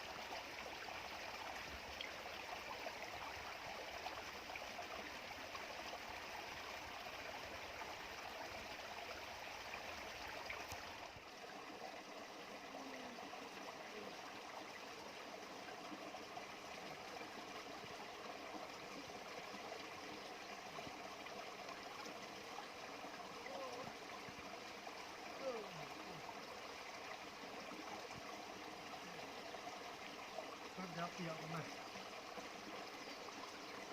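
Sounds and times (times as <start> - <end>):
stream running over stones: 0.0 - 33.9.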